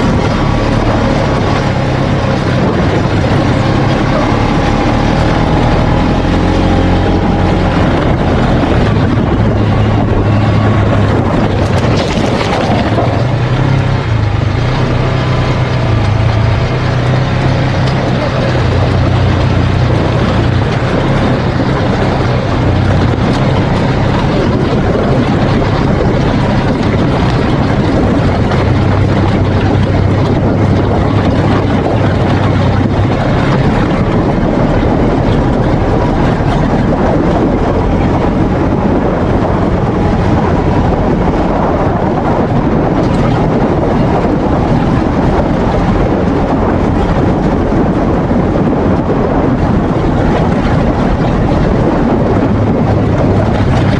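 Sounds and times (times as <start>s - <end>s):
loud rushing noise: 0.0s - 53.9s
vehicle engine hum: 0.0s - 53.9s.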